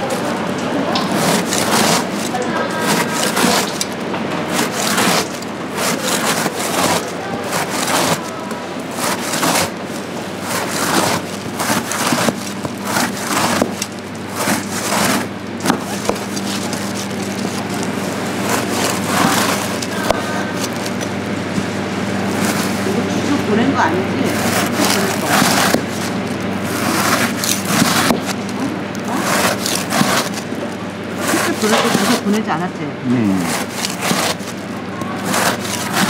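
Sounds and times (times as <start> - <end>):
tools scraping and knocking: 0.0 - 23.0, 24.3 - 32.4, 33.5 - 36.0
steady low hum: 0.0 - 36.0.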